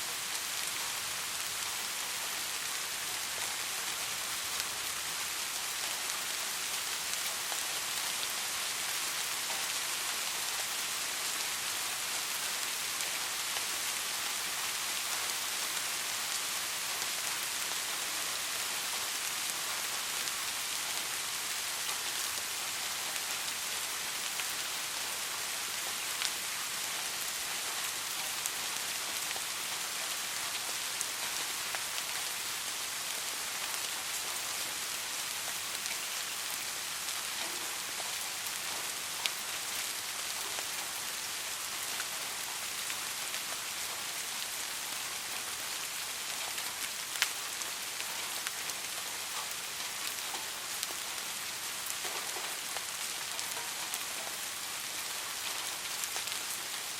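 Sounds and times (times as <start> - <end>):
soft steady rain: 0.0 - 56.9.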